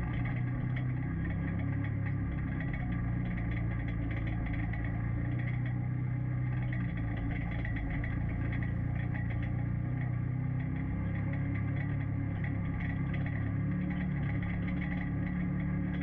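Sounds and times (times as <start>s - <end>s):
vehicle engine running: 0.0s - 16.0s
vehicle rattling and clatter: 0.0s - 16.0s.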